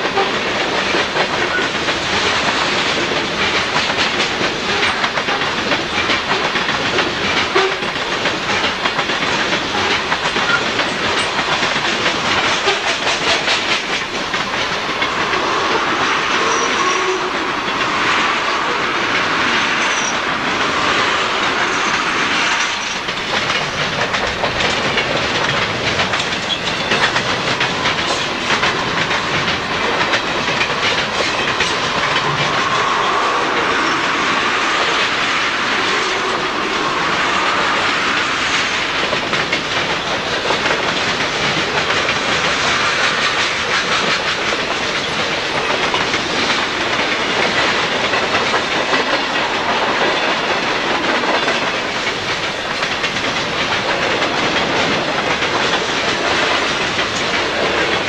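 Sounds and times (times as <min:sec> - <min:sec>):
freight train rumbling past: 0:00.0 - 0:58.0
steel wheels clattering over rail joints: 0:00.0 - 0:58.0.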